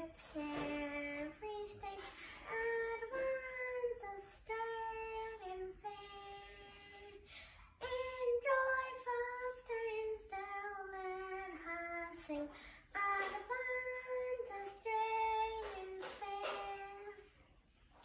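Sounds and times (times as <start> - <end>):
girl singing: 0.0 - 17.4.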